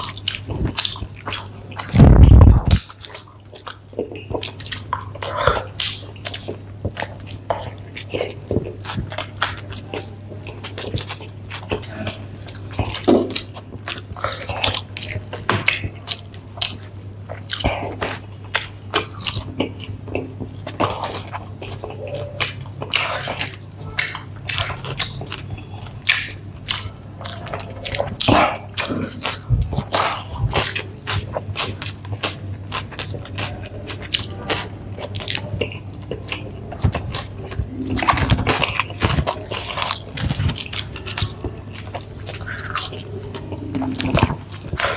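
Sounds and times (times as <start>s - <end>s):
people chewing food: 0.0s - 44.9s
steady low hum: 0.0s - 44.9s.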